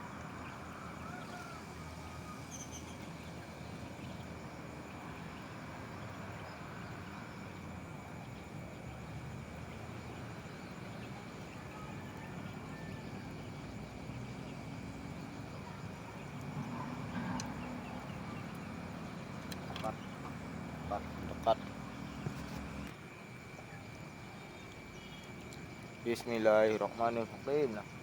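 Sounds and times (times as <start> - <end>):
faint bird chirps: 0.0 - 9.0, 9.7 - 28.0
outdoor background noise: 0.0 - 28.0.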